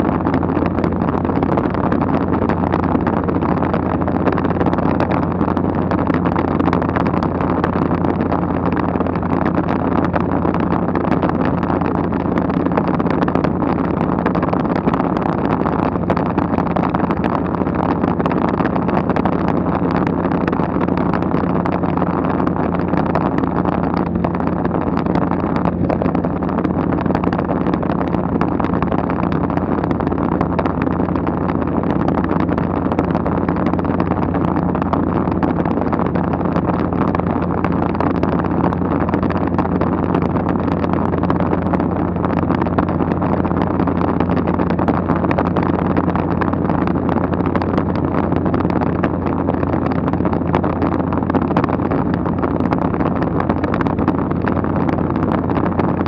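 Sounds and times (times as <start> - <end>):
light aircraft engine drone in cabin: 0.0 - 56.0
rush of air: 0.0 - 56.0.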